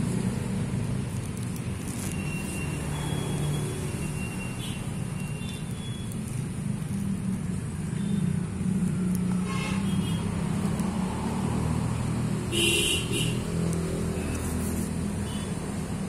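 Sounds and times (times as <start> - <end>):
traffic or engine rumble: 0.0 - 16.0.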